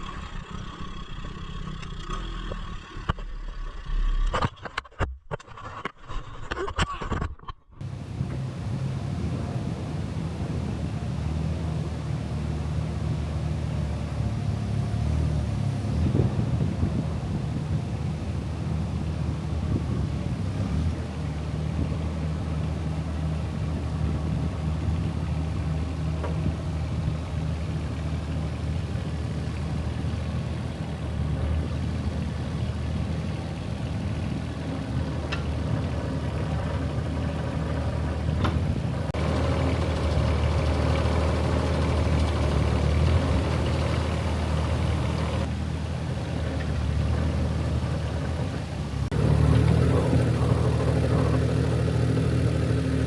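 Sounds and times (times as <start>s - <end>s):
vehicle engine running: 0.0s - 4.4s, 7.8s - 53.0s.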